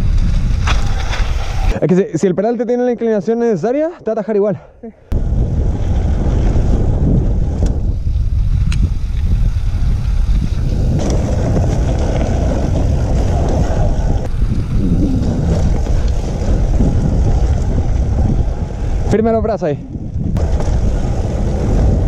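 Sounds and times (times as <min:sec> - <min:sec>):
bike tyres rumbling over dirt: 0:00.0 - 0:01.8, 0:05.1 - 0:22.0
wind buffeting microphone: 0:00.0 - 0:01.8, 0:05.1 - 0:22.0.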